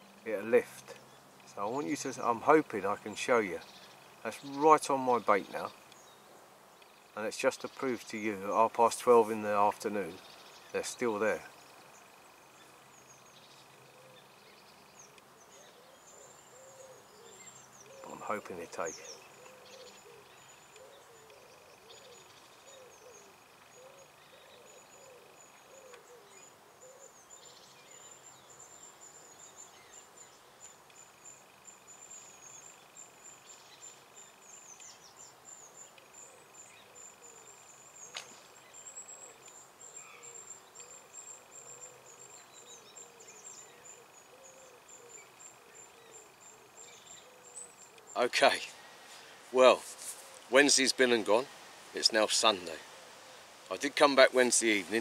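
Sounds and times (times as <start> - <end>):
distant bird calls: 0.0 - 55.0.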